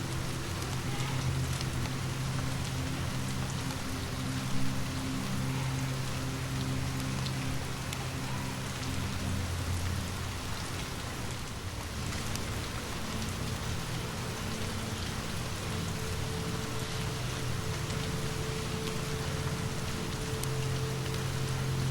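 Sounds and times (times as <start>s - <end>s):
low steady hum: 0.0s - 21.9s
steady rain falling: 0.0s - 21.9s.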